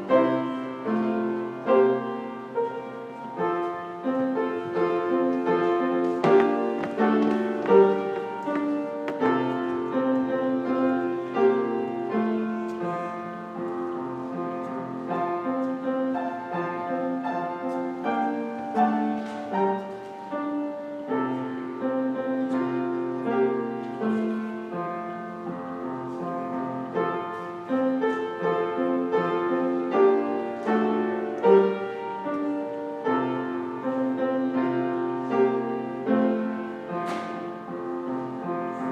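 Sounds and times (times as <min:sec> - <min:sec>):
solo piano hymn-like piece: 0:00.0 - 0:38.9.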